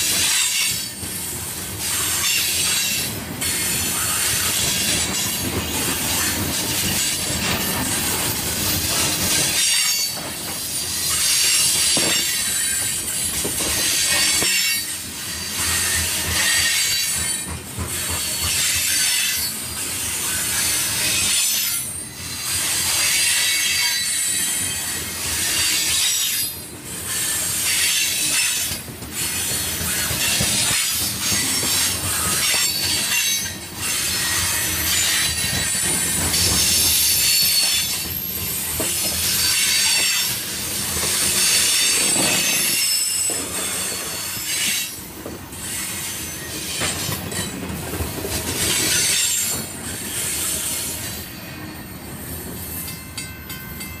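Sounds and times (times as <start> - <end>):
train wheels rumbling over rail: 0.0 - 54.0.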